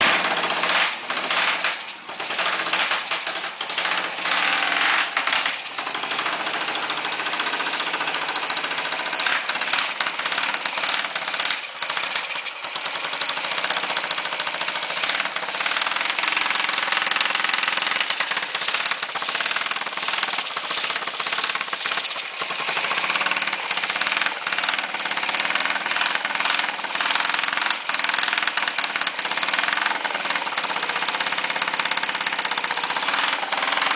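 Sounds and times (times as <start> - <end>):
motorcycle engine idling unevenly: 0.0 - 33.9.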